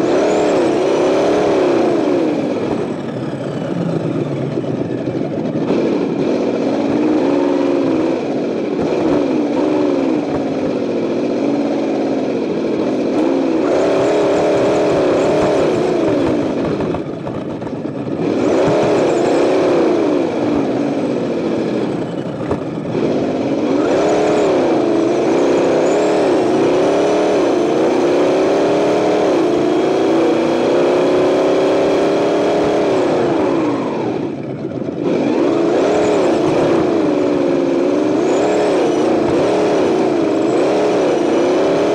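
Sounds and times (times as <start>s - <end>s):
simulated engine sound revving: 0.0s - 17.2s, 18.0s - 41.9s.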